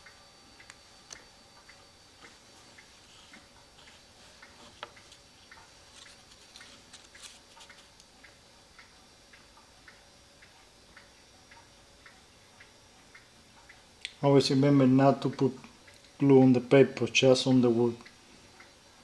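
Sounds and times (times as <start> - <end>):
mechanical clock ticking: 0.0 - 19.0.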